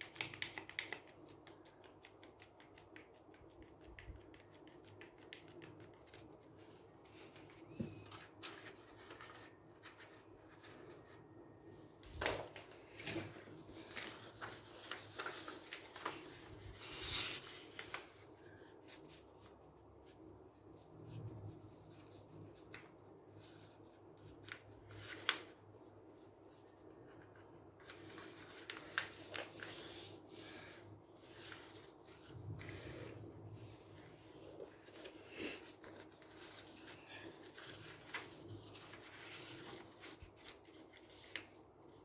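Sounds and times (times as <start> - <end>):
paper rustling and rubbing: 0.0 - 11.2, 12.1 - 20.2, 21.0 - 42.0.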